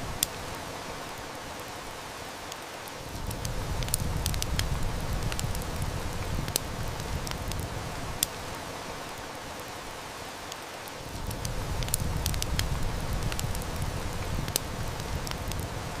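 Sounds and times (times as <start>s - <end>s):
rain hiss: 0.0s - 16.0s
wood fire crackling: 0.0s - 16.0s.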